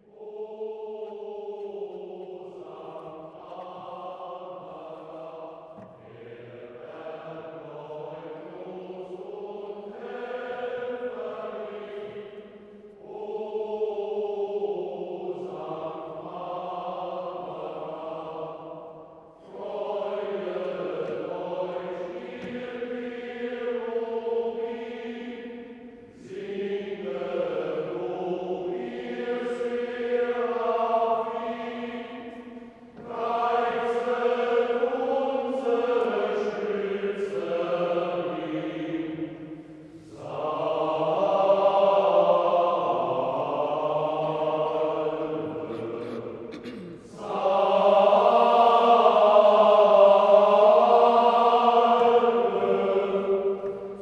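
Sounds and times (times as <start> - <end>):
choir breaths: 0.0 - 54.0
choir singing sacred music: 0.0 - 54.0.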